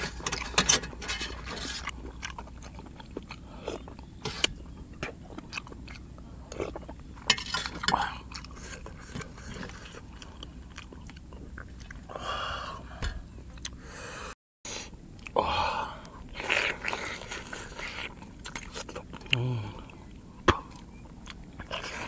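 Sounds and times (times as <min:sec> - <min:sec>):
person chewing meat: 0:01.3 - 0:13.9, 0:15.1 - 0:15.4, 0:16.0 - 0:22.0.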